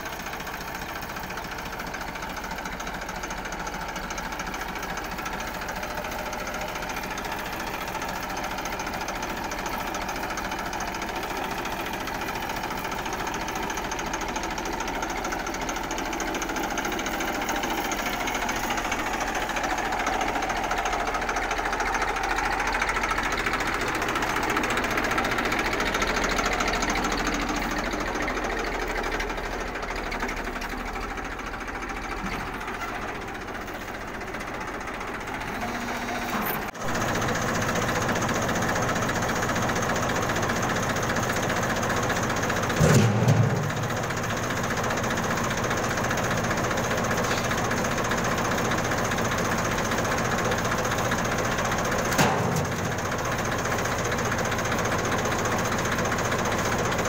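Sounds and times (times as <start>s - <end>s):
tractor diesel engine clattering: 0.0s - 57.0s.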